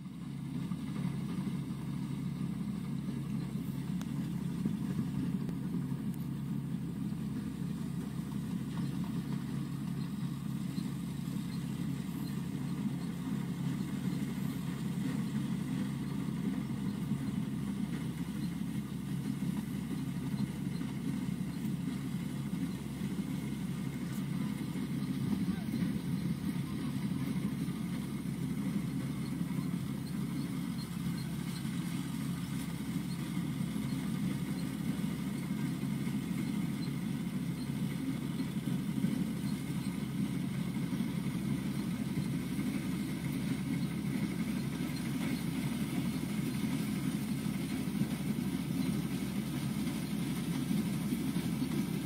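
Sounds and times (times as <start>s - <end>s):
diesel engine droning: 0.0s - 52.0s.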